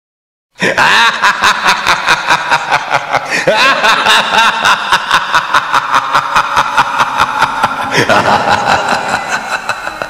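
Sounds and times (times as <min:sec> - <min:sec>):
sinister cackling laugh: 0:00.6 - 0:10.0.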